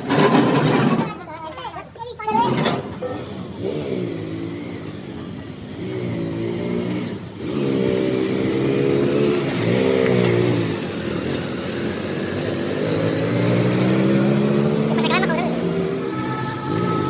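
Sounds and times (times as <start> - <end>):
motor vehicles passing: 0.0 - 17.0.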